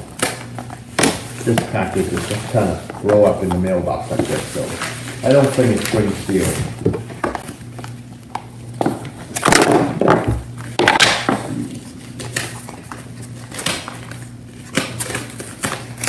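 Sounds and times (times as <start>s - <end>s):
low steady hum: 0.0s - 16.0s
packaging crinkling and rustling: 0.0s - 16.0s.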